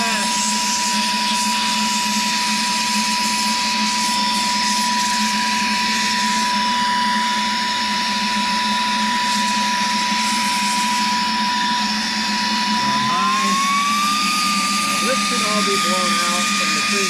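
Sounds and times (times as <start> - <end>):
vacuum motor whine: 0.0 - 17.0.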